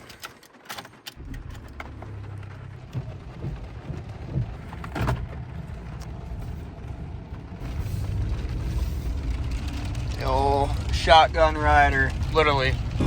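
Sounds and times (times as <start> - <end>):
heavy rain on a truck: 0.0 - 13.0
truck engine running: 1.2 - 13.0.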